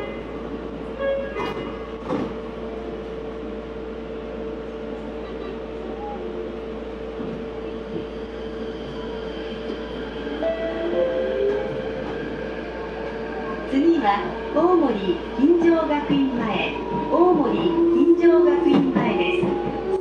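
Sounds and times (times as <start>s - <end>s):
train interior hum and rumble: 0.0s - 20.0s.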